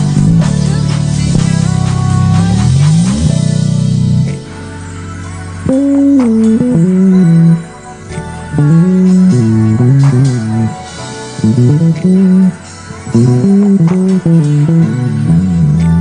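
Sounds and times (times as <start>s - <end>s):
electric bass played fingerstyle: 0.0s - 4.8s, 5.4s - 16.0s.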